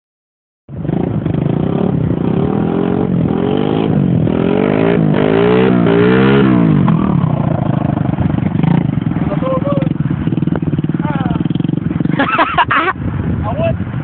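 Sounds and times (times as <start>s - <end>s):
small motorcycle engine revving: 0.8s - 12.6s.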